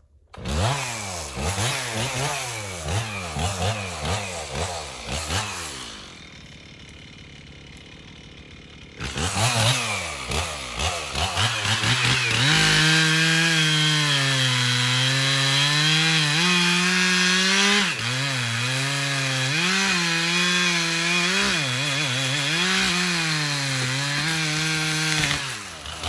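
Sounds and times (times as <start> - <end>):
chainsaw cutting wood: 0.3 - 26.0.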